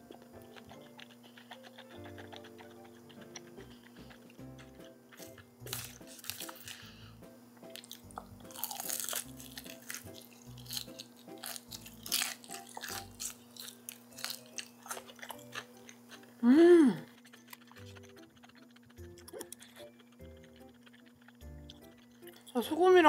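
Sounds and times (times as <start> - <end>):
crunchy chewing of fried chicken: 0.0 - 23.0
light background music: 0.0 - 23.0.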